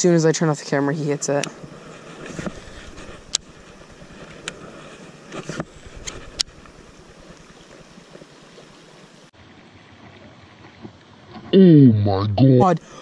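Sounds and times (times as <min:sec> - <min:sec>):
shallow river water rushing: 0:00.5 - 0:11.5.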